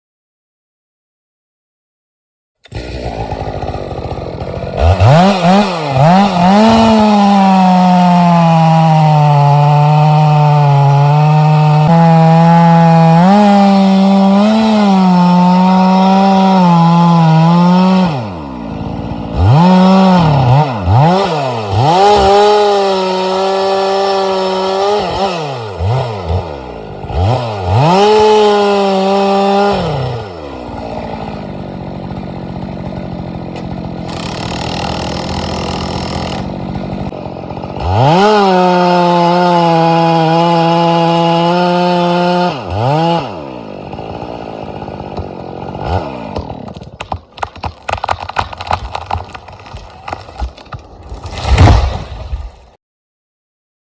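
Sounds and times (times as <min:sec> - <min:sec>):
chainsaw revving and cutting: 0:02.6 - 0:52.7.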